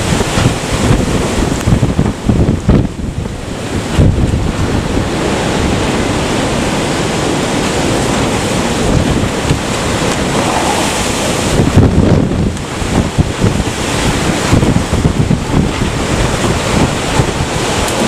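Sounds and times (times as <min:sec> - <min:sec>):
strong wind rushing: 0:00.0 - 0:18.0
wind buffeting microphone: 0:00.0 - 0:18.0.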